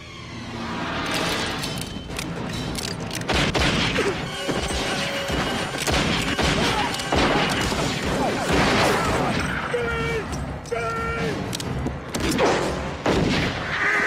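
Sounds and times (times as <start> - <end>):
film music: 0.0 - 14.0.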